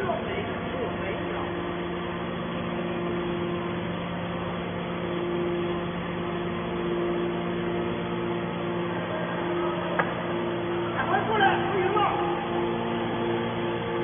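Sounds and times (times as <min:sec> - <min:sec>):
hydraulic pump motor humming: 0:00.0 - 0:14.0.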